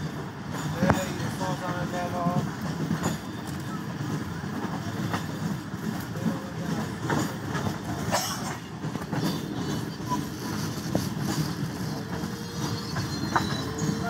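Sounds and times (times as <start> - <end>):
train rumbling on track: 0.0 - 14.0
wheels clicking on rails: 0.0 - 14.0.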